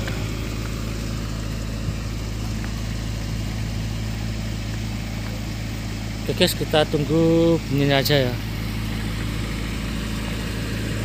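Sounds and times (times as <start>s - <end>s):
generator engine idling: 0.0s - 11.0s.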